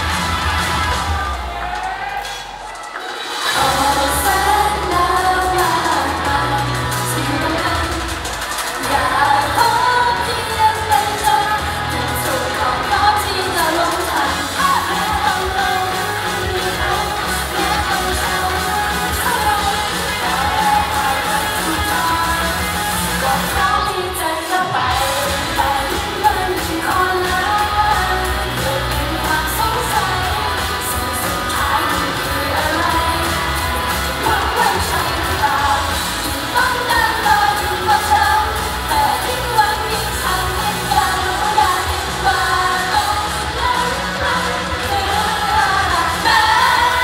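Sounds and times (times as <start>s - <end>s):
women singing pop song: 0.0s - 2.4s, 3.2s - 47.0s.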